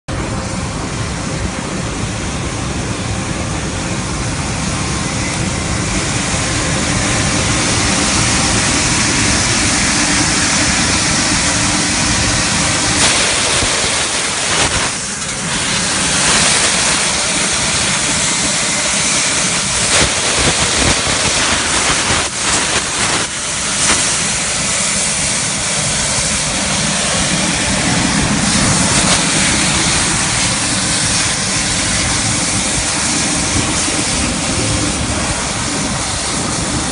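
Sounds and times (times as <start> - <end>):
truck blower drone: 0.1 - 36.9
suction air rushing: 0.2 - 36.9.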